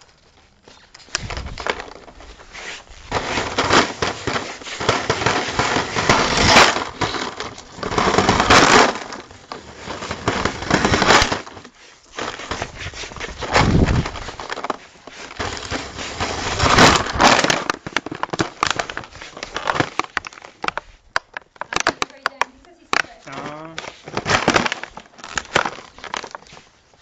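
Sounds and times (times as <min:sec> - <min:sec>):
pebble bottle rattling on tiles: 0:03.1 - 0:26.6.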